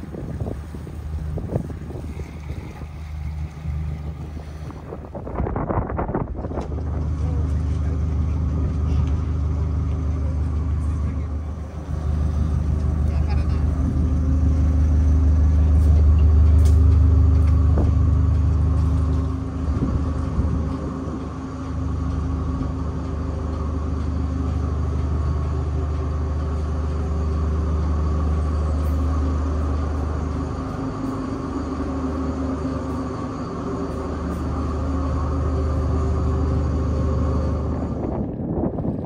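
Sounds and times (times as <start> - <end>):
ship engines droning: 0.0 - 39.0.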